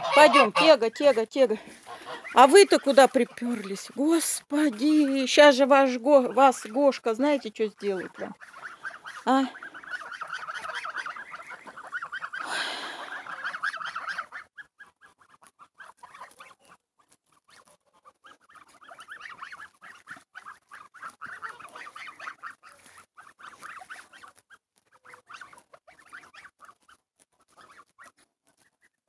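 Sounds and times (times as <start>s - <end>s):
geese chattering: 0.0s - 28.8s.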